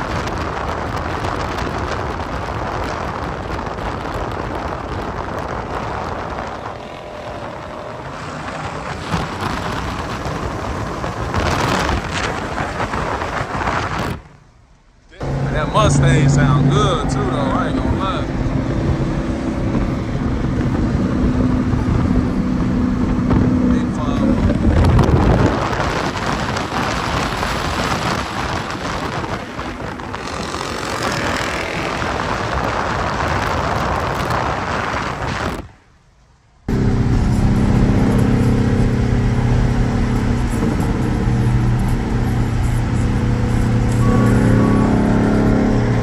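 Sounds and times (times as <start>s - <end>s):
car engine noise: 0.0s - 46.0s
dense rush: 0.0s - 46.0s.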